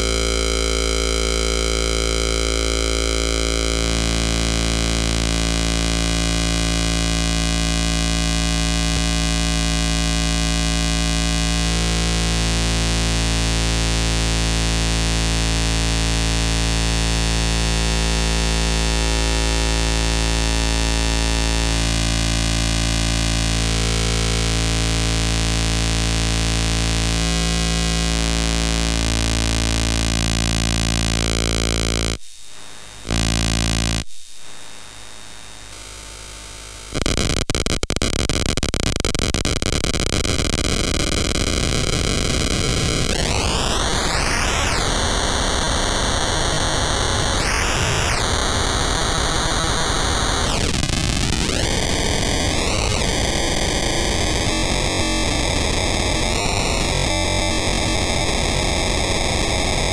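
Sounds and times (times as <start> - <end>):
buzzy synth tone: 0.0 - 39.5, 40.5 - 59.9.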